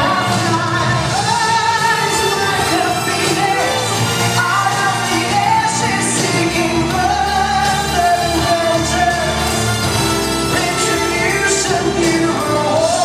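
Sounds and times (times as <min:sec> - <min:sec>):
person singing pop song: 0:00.0 - 0:13.0
steady held bass: 0:00.0 - 0:13.0.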